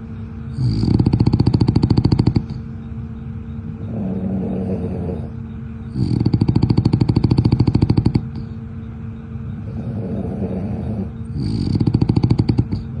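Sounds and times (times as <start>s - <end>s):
dog snoring: 0.5s - 2.6s, 3.6s - 8.6s, 9.6s - 13.0s
dog breathing: 0.5s - 2.8s, 3.6s - 8.7s, 9.6s - 13.0s.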